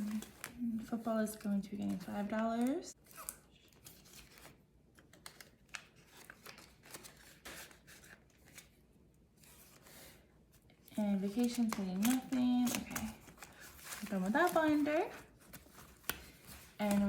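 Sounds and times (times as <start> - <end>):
paper bills rustling: 0.0 - 8.8, 10.9 - 17.0.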